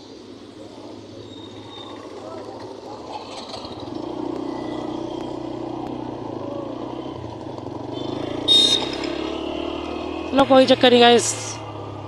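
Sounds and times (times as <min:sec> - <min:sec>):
road and wind noise: 0:00.0 - 0:12.0
motorcycle engine running: 0:01.6 - 0:12.0.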